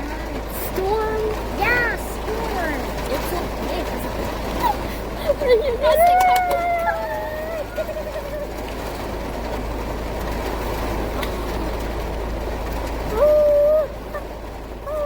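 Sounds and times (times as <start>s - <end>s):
low rumble inside car: 0.0s - 15.0s
rain on car roof: 0.0s - 15.0s.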